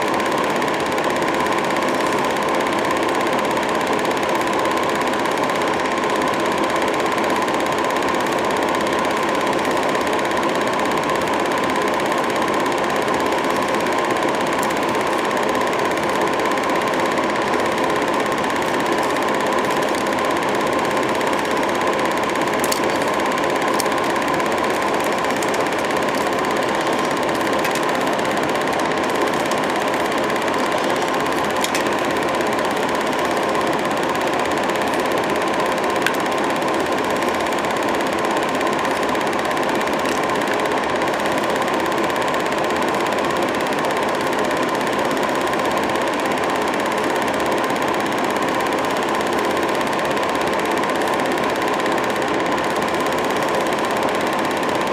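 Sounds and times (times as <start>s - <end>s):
film projector clattering: 0.0s - 54.9s.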